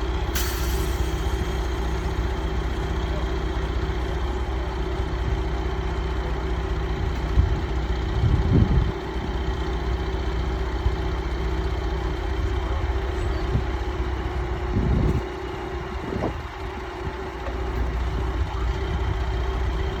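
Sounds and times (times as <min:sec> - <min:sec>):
large engine idling: 0:00.0 - 0:20.0
low rumbles: 0:00.0 - 0:20.0.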